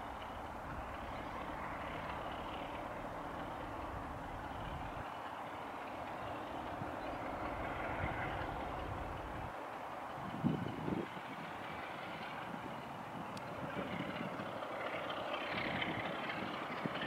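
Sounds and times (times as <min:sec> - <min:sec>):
distant diesel locomotive engine drone: 0:00.0 - 0:17.0
low hum: 0:00.0 - 0:17.0.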